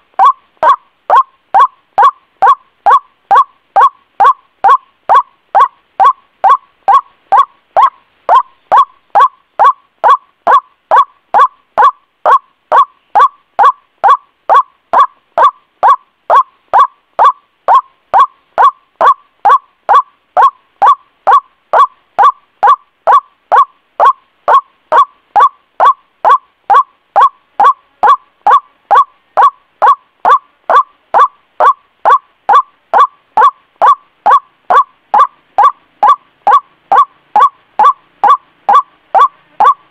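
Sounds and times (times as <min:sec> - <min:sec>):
waterhen call repeated: 0:00.0 - 0:39.9.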